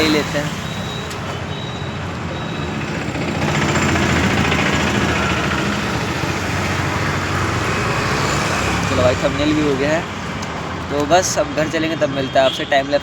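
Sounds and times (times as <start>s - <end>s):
heavy vehicle engine running: 0.0s - 10.8s
roadside traffic: 0.0s - 13.0s.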